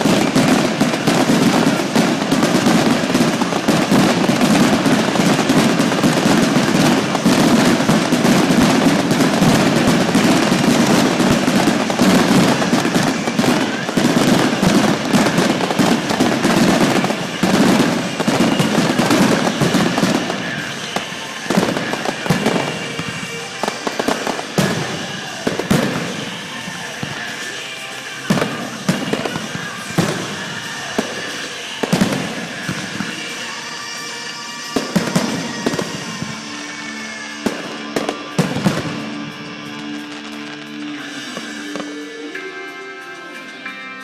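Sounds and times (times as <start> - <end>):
fireworks bursting and crackling: 0.0 - 43.8.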